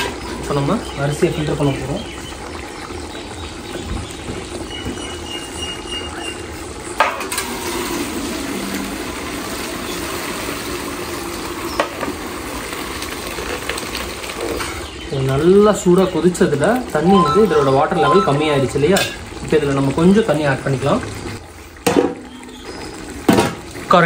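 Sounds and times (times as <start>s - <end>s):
water draining through colander: 0.0s - 24.0s.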